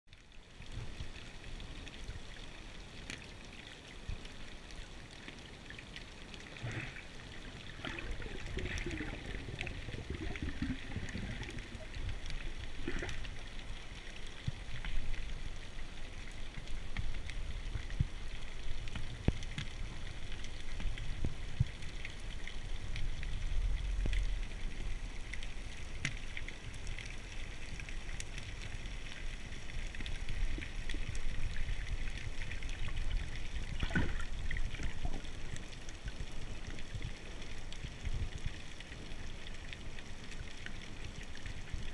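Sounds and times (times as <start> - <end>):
low wash of water underwater: 0.1 - 41.9
sharp clicks and crackles: 0.1 - 41.9.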